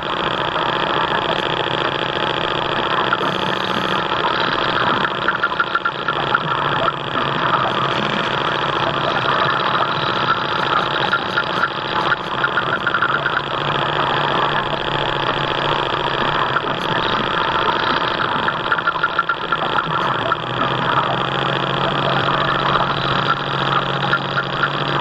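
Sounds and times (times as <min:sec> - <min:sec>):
model boat motor humming: 0:00.0 - 0:25.0.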